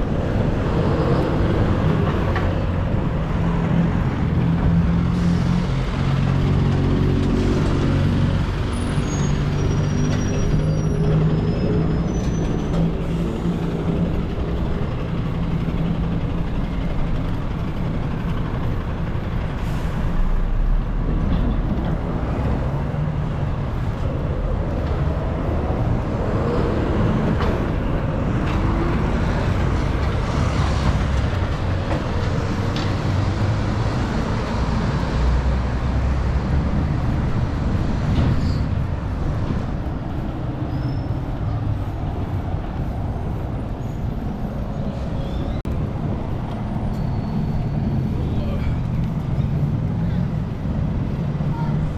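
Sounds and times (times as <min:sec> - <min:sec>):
heavy vehicle engines: 0:00.0 - 0:51.9.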